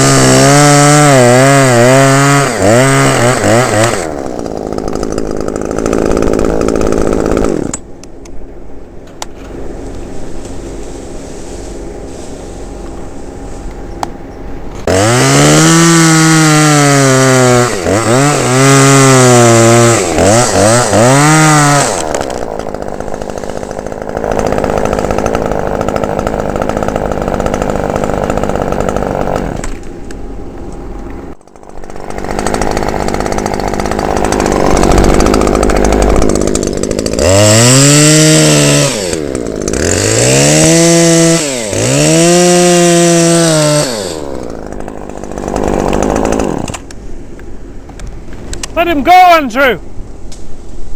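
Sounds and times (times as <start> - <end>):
chainsaw revving and cutting wood: 0.0 - 8.0, 14.8 - 47.9, 48.5 - 49.9.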